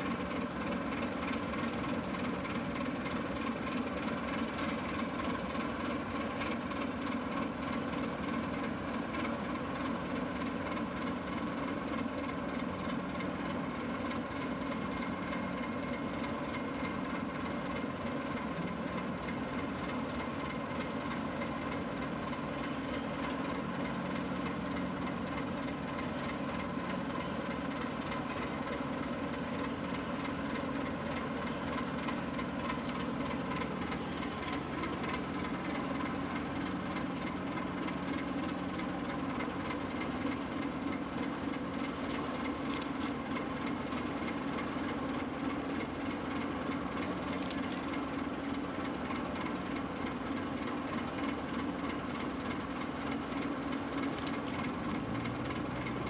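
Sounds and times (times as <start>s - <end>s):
ship diesel engines droning: 0.0s - 56.0s.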